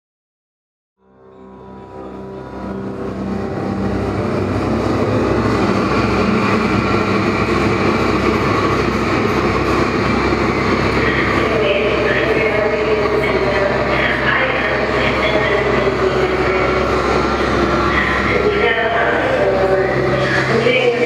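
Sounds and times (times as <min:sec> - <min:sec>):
rumbling noise drone: 0:01.5 - 0:21.0.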